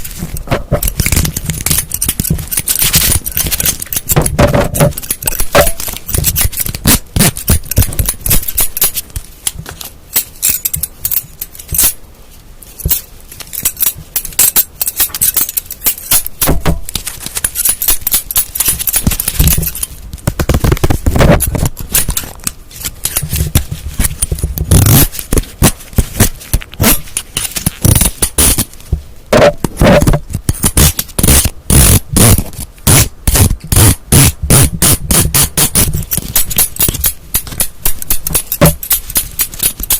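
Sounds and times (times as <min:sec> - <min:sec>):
objects tapped and scratched: 0:00.0 - 0:12.0, 0:12.6 - 0:39.9.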